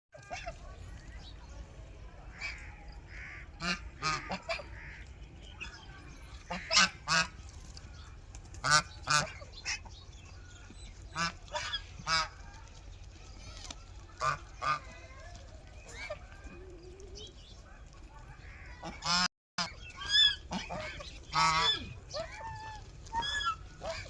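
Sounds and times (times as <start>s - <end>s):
birds calling: 2.3s - 24.0s.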